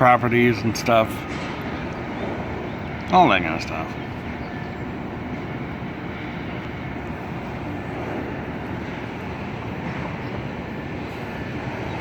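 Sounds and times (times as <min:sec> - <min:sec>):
distant city traffic rumble: 0:00.0 - 0:12.0.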